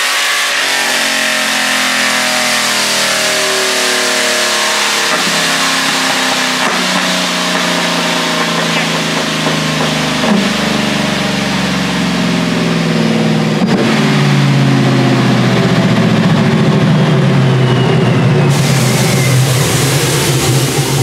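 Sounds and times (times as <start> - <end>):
supercharged engine running hard: 0.0 - 21.0
thin whine falling in pitch: 0.0 - 21.0.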